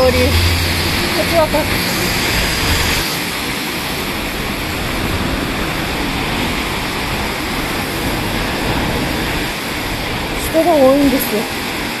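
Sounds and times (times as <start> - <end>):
low unsteady rumble: 0.0 - 10.6
traffic hiss on wet roads: 0.0 - 12.0.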